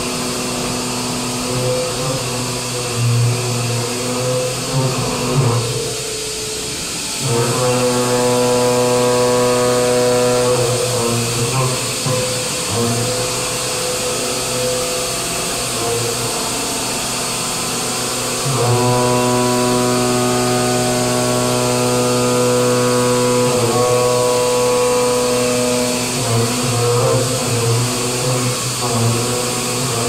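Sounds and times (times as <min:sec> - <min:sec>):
milling machine whine: 0:00.0 - 0:30.0.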